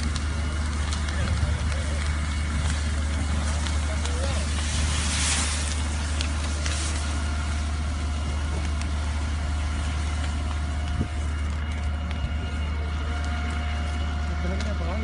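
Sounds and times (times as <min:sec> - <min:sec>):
pump engine rumbling: 0:00.0 - 0:15.0.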